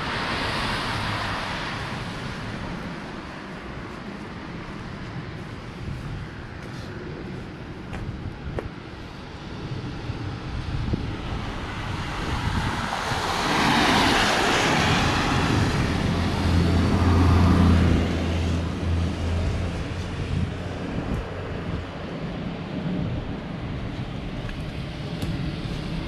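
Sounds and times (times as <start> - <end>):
low engine hum: 0.0 - 26.0
road noise of passing vehicle: 0.0 - 26.0.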